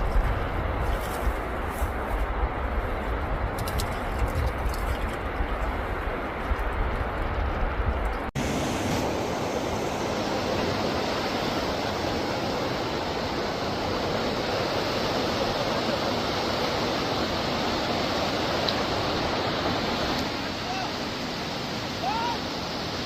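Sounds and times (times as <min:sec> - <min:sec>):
flowing river water: 0:00.0 - 0:23.0.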